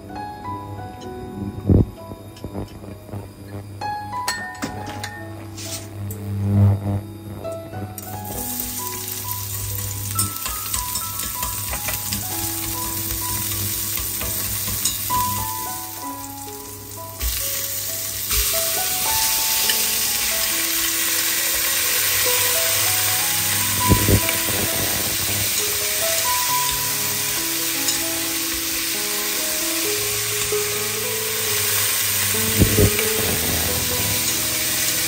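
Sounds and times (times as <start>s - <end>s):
background music: 0.0s - 35.0s
food sizzling in a pan: 1.7s - 35.0s.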